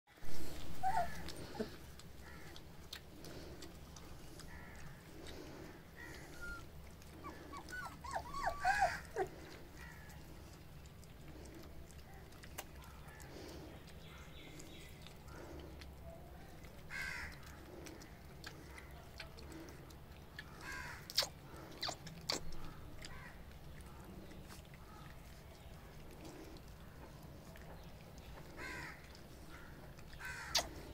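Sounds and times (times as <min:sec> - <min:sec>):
low steady hum: 0:00.1 - 0:30.9
faint animal calls: 0:00.4 - 0:10.6, 0:11.5 - 0:30.9.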